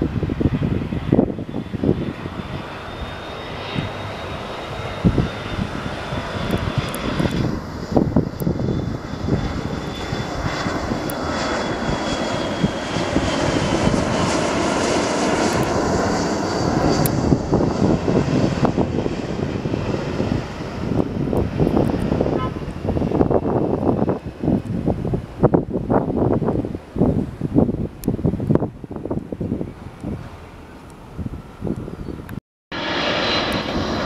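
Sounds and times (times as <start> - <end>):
high jet whine falling: 0.0 - 34.0
jet airliner rumble: 0.0 - 34.0.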